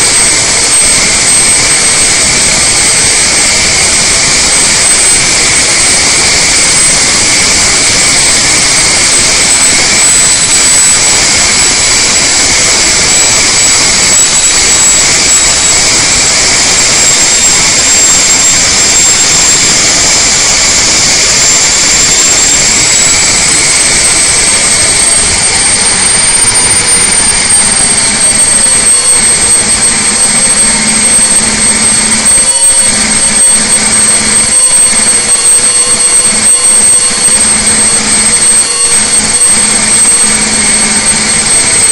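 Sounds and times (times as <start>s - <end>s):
diesel engine roaring under load: 0.0s - 41.9s
high whine: 0.0s - 41.9s.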